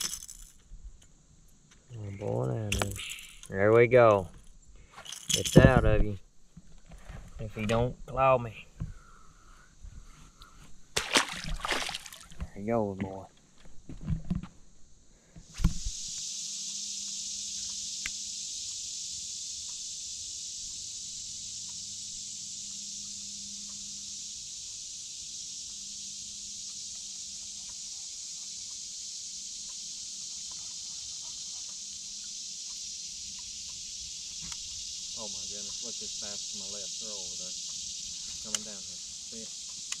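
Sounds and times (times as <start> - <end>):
shrill insect chorus: 0.0 - 40.0.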